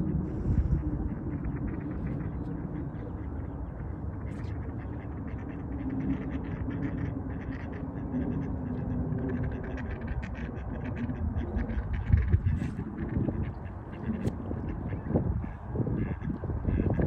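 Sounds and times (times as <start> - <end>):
ducks quacking: 0.0 - 17.0
steady low rumble: 0.0 - 17.0.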